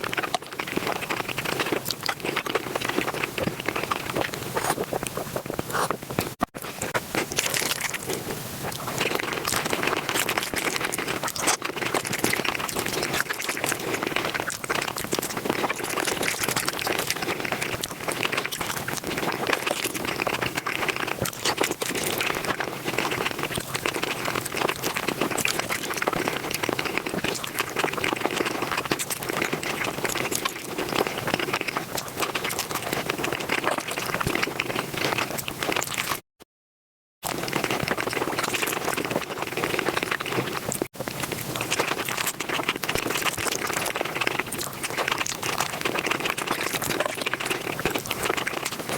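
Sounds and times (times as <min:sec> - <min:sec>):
sped-up eating sounds: 0:00.0 - 0:36.2, 0:37.2 - 0:48.9.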